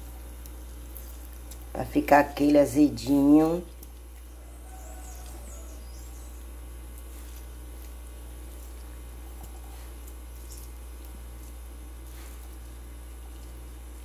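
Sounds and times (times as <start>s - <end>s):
juice drips and squelches: 0.0s - 14.0s
steady low hum: 0.0s - 14.0s.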